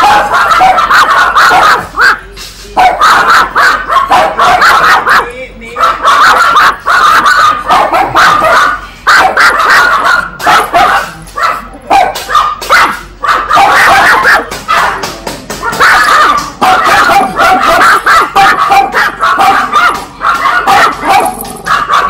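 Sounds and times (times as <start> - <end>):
small dog barking high-pitched: 0.0 - 2.2, 2.8 - 15.0, 15.6 - 22.0.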